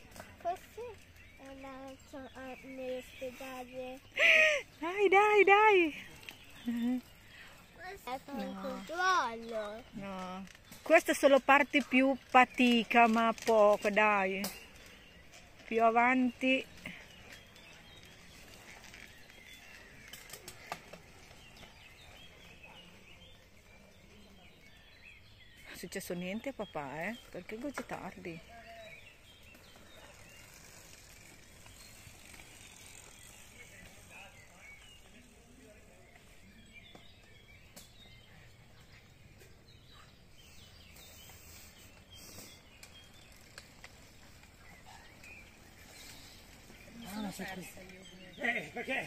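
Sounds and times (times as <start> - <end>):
birds chirping and singing: 0.0 - 49.0
faint outdoor background noise: 0.0 - 49.0
mountain bikes passing on dirt: 0.0 - 49.0.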